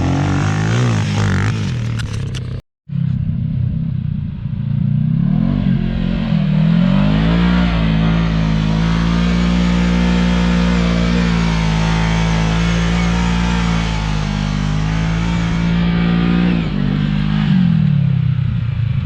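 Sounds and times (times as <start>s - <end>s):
utv engine running: 0.0s - 19.0s.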